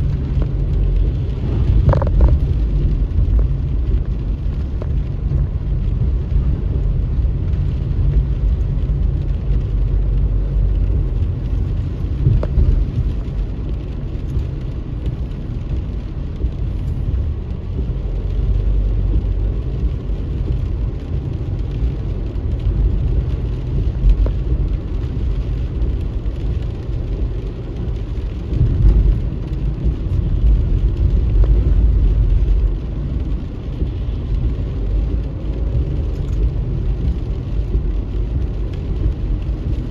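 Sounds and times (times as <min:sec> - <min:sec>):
car engine and tyres rumbling: 0:00.0 - 0:39.9
rain and spray hissing: 0:00.0 - 0:39.9.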